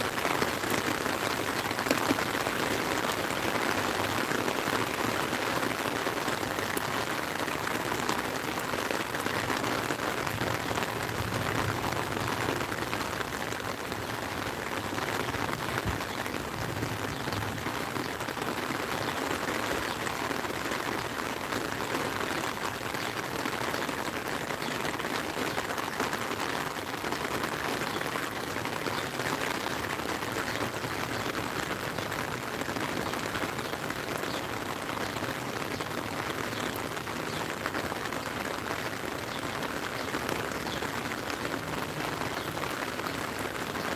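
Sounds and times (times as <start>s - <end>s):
rain on lake and umbrella: 0.0s - 43.9s.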